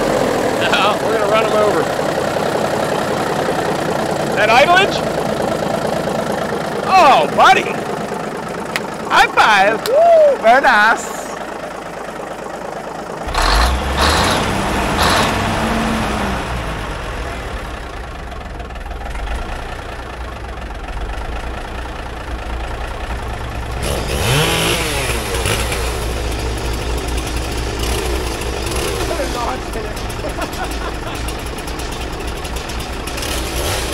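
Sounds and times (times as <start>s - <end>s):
truck engine starting and revving: 0.0s - 33.9s.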